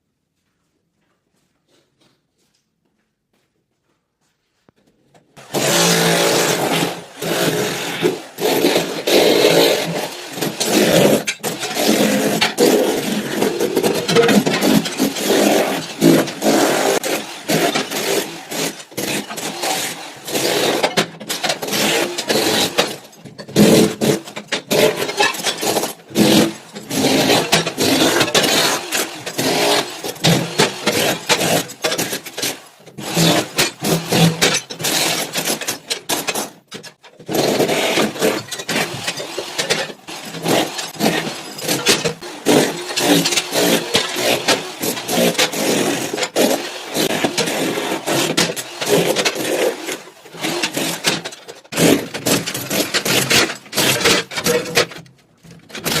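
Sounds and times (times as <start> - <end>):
power tool running under load: 5.4 - 36.4, 37.3 - 53.4
scraping and knocking: 5.4 - 56.0.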